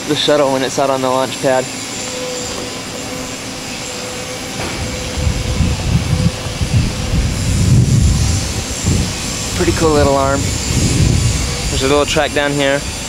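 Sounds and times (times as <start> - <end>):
wind buffeting microphone: 2.5 - 13.0.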